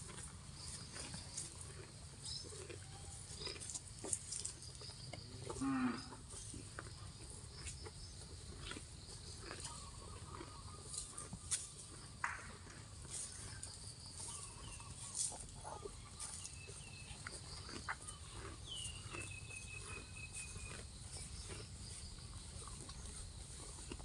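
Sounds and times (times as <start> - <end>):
cow tearing and chewing grass: 0.0 - 24.0.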